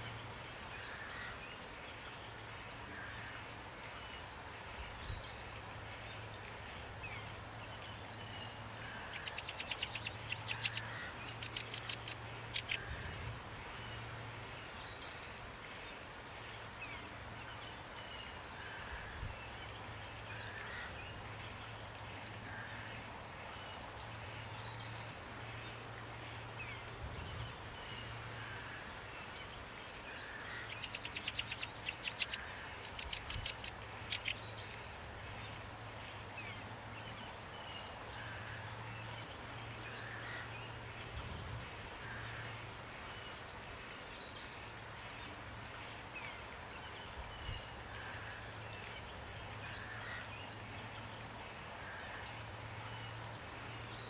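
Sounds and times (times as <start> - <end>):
songbirds singing: 0.0 - 54.0
steady rain: 0.0 - 54.0.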